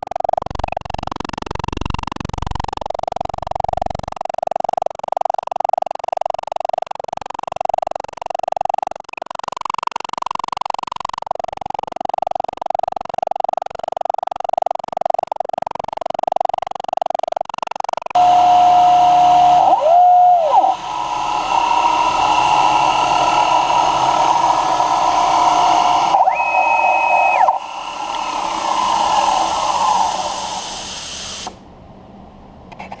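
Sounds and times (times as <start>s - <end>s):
milling machine motor noise: 0.0s - 31.7s
stepper motor whine: 0.0s - 31.8s.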